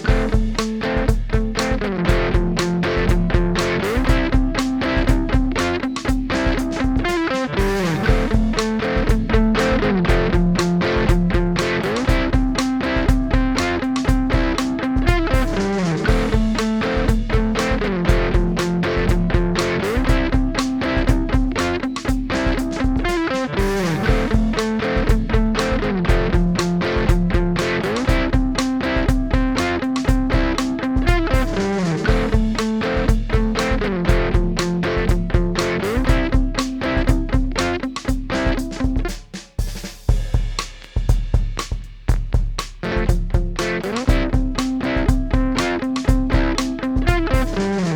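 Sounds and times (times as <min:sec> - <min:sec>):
electric guitar chords: 0:00.0 - 0:39.3, 0:42.8 - 0:47.9
steady beat: 0:00.0 - 0:47.9.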